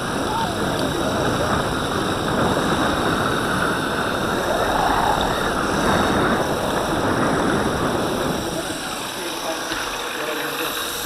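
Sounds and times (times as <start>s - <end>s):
wind on microphone: 0.0s - 9.5s
tyres rolling over asphalt: 0.0s - 11.0s.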